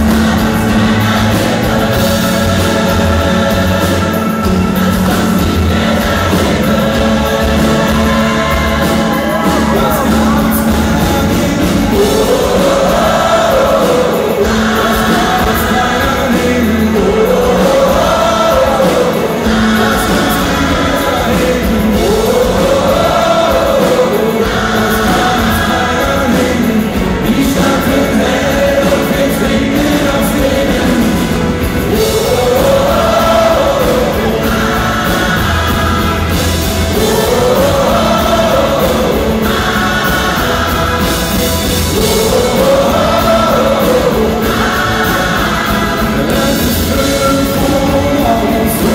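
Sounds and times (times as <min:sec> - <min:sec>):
gospel choir singing: 0:00.0 - 0:48.9
rock band playing: 0:00.0 - 0:48.9.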